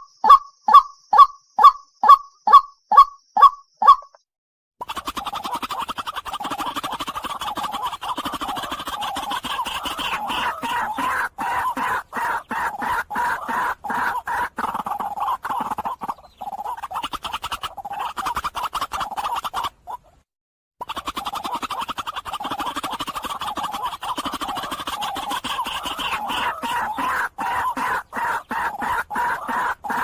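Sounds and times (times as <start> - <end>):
waterhen calling harsh notes: 4.9 - 20.1, 20.9 - 30.0.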